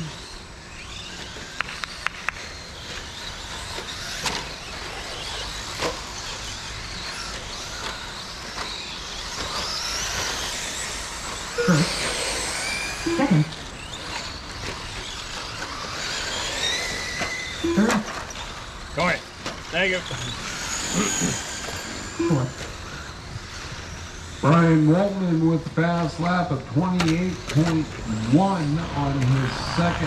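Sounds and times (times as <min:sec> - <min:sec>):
rc truck motors whining: 0:00.0 - 0:30.0.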